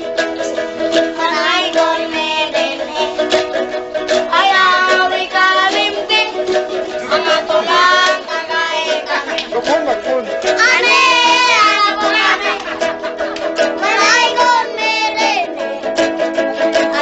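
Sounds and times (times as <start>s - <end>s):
strummed ukulele: 0.0s - 17.0s
child singing: 0.9s - 9.4s, 10.4s - 12.8s, 13.7s - 17.0s.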